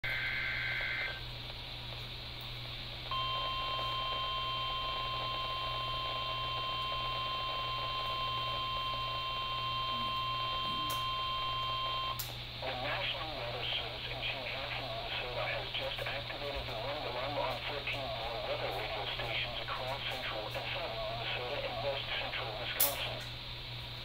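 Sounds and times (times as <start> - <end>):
steady attention tone: 0.0 - 1.2, 3.1 - 23.2
low steady hum: 0.1 - 24.0.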